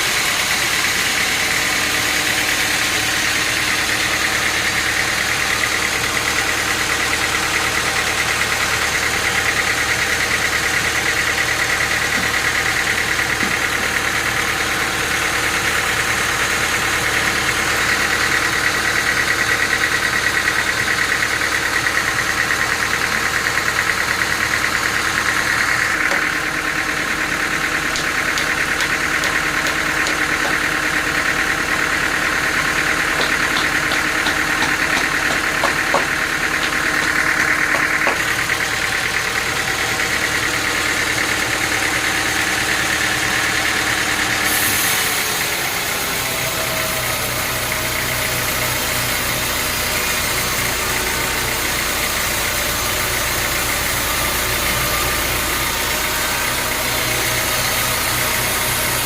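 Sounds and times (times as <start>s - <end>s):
sawmill machinery engine drone: 0.0s - 59.0s.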